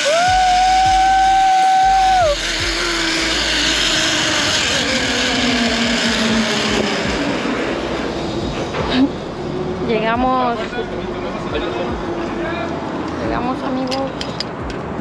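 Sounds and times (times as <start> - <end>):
zipline trolley rushing on cable: 0.0 - 14.8.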